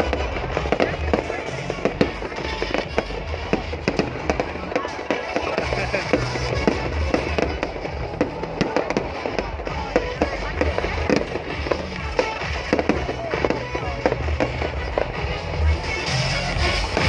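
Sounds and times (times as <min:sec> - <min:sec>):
fireworks bangs and crackles: 0:00.0 - 0:17.0
music with deep bass: 0:00.0 - 0:17.0.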